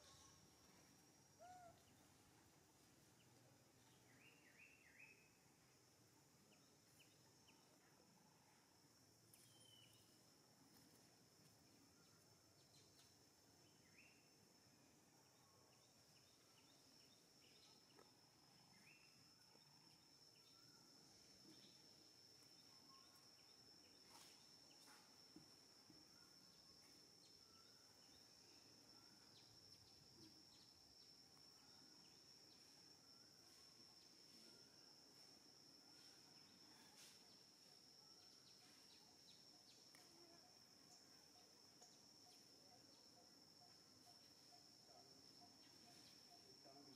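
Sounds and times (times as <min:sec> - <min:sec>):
faint bird chirps: 0:00.0 - 0:05.8, 0:06.4 - 0:46.9.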